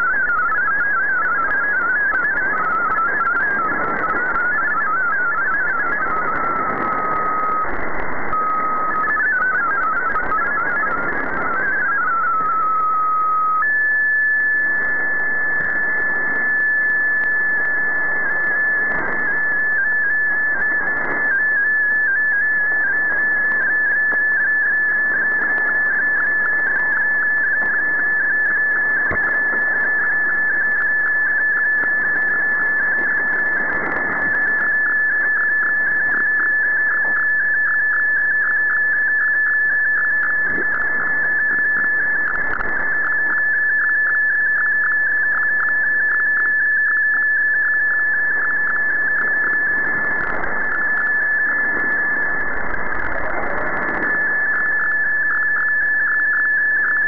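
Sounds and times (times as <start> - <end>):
radio static: 0.0 - 57.0
steady radio tone: 0.0 - 57.0.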